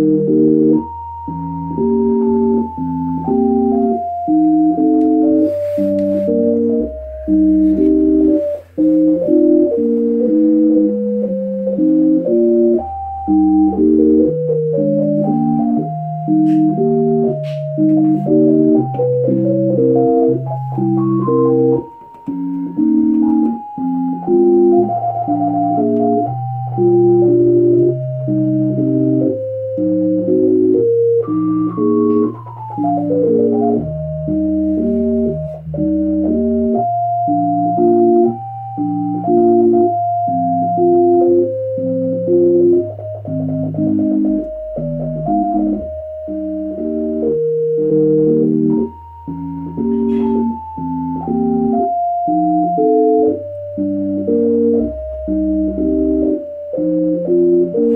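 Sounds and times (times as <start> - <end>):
organ-like keyboard piece: 0.0 - 57.9.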